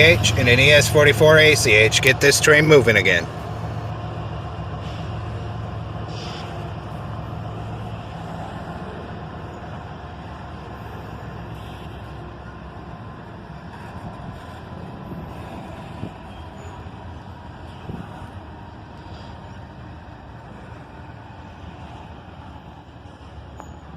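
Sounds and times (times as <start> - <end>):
locomotive engine drone: 0.0 - 23.9
train running noise: 0.0 - 23.9.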